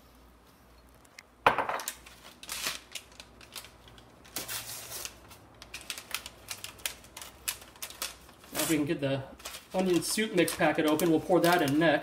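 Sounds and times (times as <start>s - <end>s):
foil packet crinkling: 1.8s - 12.0s.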